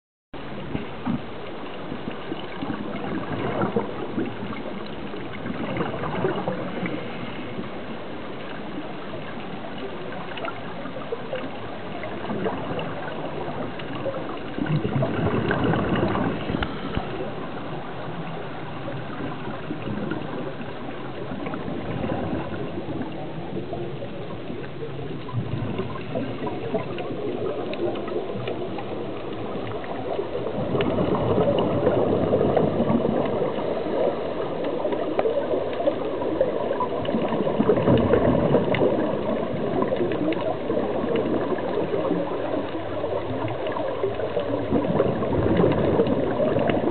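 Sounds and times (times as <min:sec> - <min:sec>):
underwater bubbles gurgling: 0:00.4 - 0:46.9.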